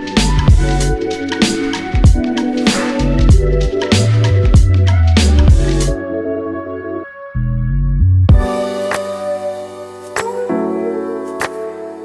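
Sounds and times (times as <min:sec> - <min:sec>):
instrumental music with keyboard: 0:00.0 - 0:12.0.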